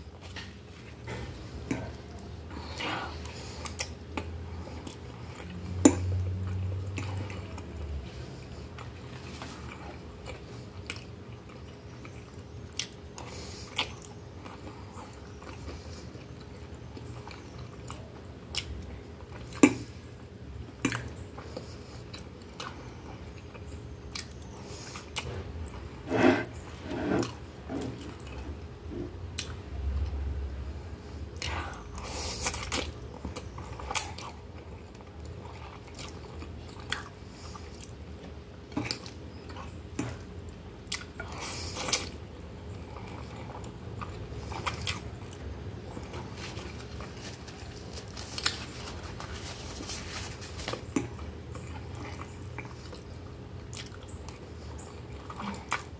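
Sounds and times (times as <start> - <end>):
person chewing noodles: 0.4 - 20.0, 20.8 - 30.2, 31.4 - 55.9.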